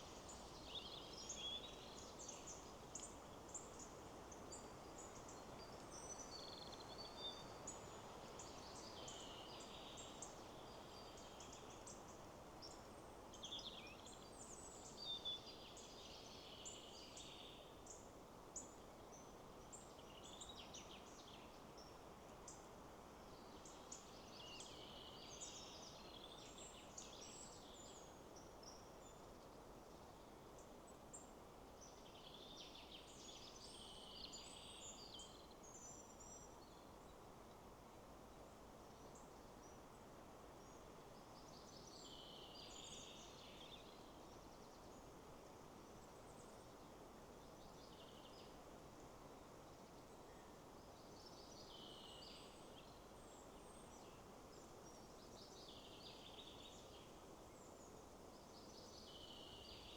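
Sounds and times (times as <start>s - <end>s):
wind in trees: 0.0s - 59.9s.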